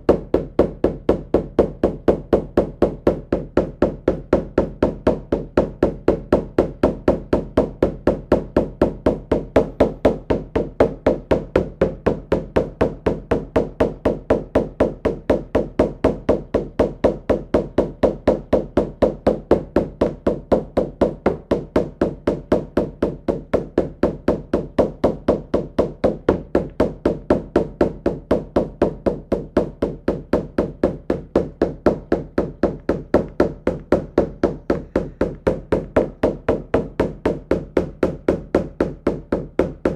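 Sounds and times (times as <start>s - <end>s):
frame drum beating steadily: 0.0s - 39.9s.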